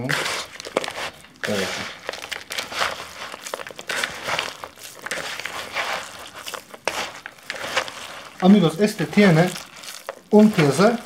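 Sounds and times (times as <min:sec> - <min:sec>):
oats rustling and crunching: 0:00.0 - 0:11.0.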